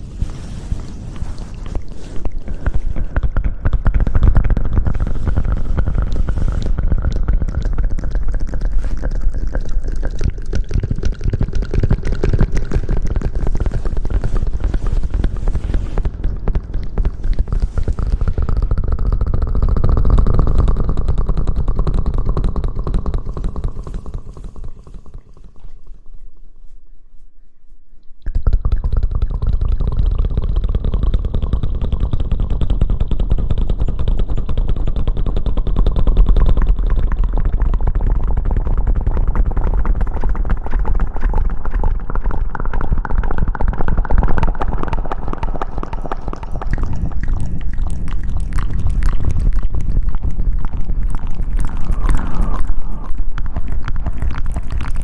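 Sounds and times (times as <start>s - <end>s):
rubbing on microphone: 0.0s - 42.7s, 43.5s - 55.0s.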